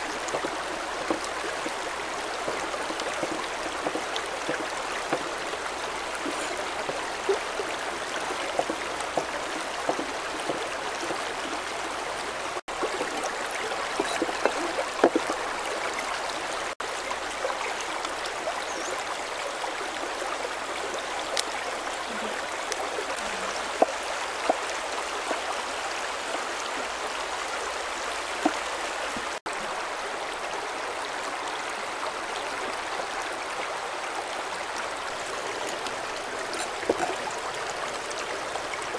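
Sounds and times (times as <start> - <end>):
river babbling over stones: 0.0 - 38.9.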